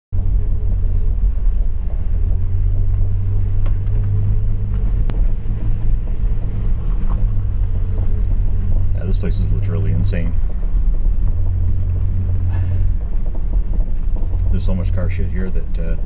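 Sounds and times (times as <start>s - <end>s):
car engine and road drone: 0.1s - 16.0s.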